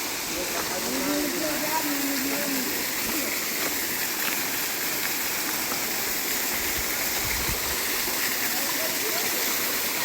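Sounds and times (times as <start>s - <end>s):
waterfall rushing water: 0.0s - 10.0s.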